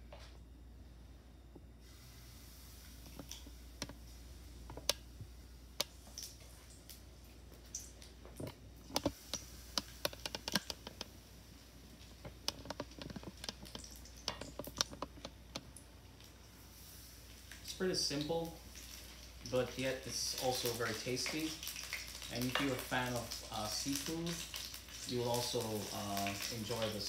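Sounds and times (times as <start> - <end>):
batter sizzling in hot oil: 1.8 - 27.0
oil crackling and popping: 2.8 - 27.0.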